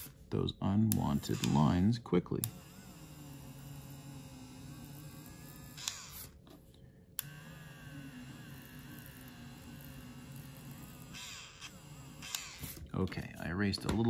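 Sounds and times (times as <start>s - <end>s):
electric eraser whirring: 0.0s - 6.4s, 7.2s - 12.9s.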